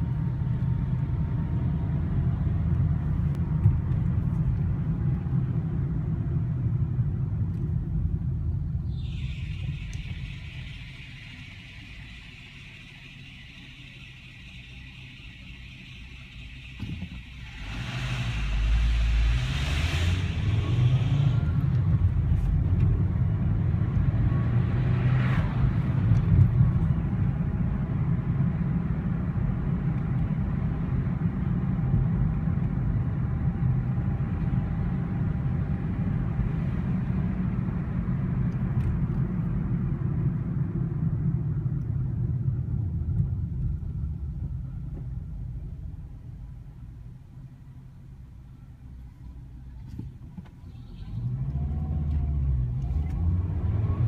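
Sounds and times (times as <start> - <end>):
car engine starting and idling: 0.0 - 54.0.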